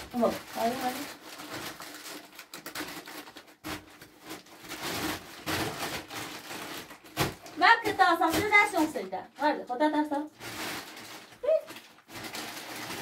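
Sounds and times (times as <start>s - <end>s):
plastic sheet rustling and crinkling: 0.0s - 13.0s.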